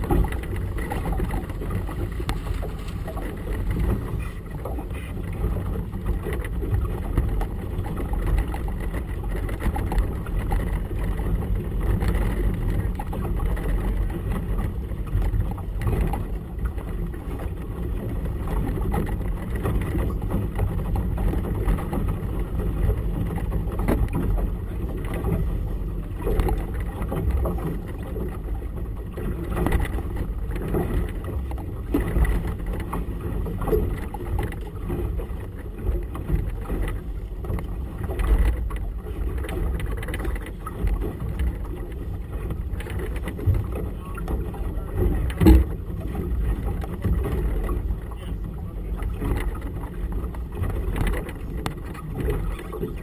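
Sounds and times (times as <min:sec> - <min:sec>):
water slapping boat hull: 0:00.0 - 0:53.0
wind buffeting camera: 0:00.0 - 0:53.0.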